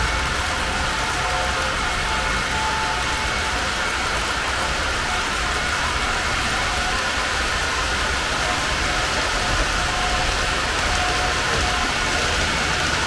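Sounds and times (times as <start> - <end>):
model train wheels rolling on rails: 0.0 - 13.0.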